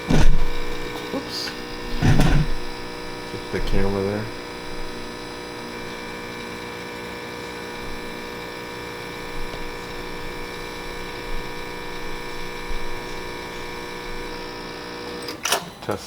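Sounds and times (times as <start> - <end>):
espresso machine humming: 0.0 - 16.0.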